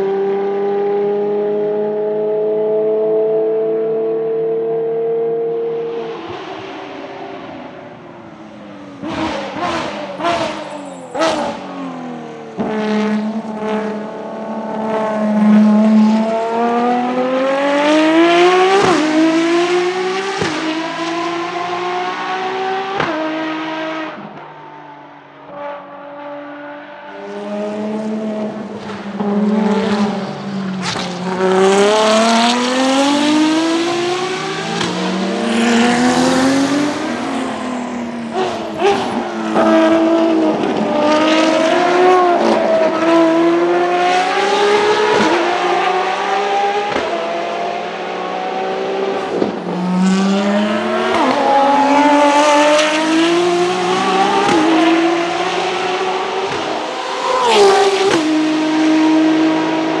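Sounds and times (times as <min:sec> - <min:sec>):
race car engines accelerating: 0:00.0 - 1:00.0.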